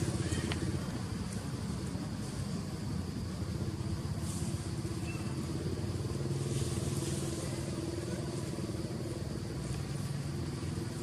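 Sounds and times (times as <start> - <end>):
engine running steadily: 0.0 - 11.0
faint hiss: 0.0 - 11.0.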